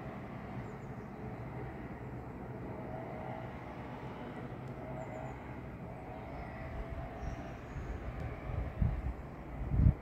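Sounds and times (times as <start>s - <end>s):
low outdoor background rumble: 0.0s - 10.0s.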